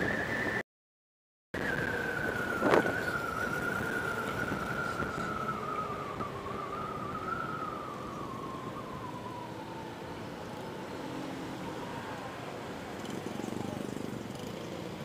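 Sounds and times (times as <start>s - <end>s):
road and wind noise: 0.0s - 0.6s, 1.6s - 15.0s
scooter engine whine: 1.6s - 15.0s.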